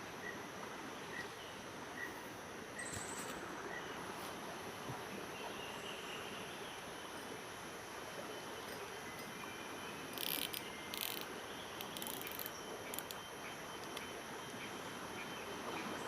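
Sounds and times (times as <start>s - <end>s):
steady outdoor hiss: 0.0s - 16.0s
insects chirping: 0.1s - 16.0s.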